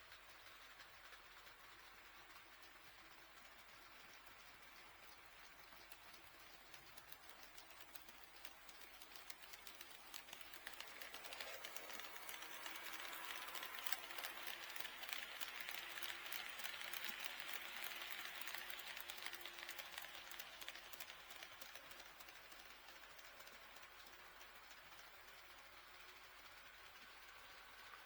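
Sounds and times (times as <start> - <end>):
faint motor hum: 0.0 - 28.0
model train wheels ticking: 0.0 - 28.0.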